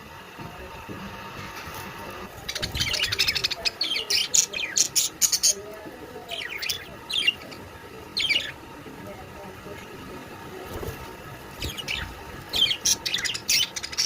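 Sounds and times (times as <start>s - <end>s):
caged birds chirping: 1.4s - 14.0s.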